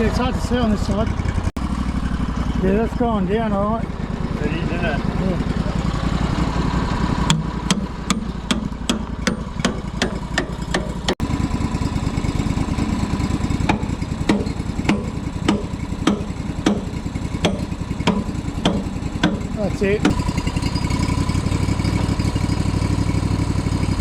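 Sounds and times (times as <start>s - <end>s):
sawmill engine running: 0.0s - 24.0s.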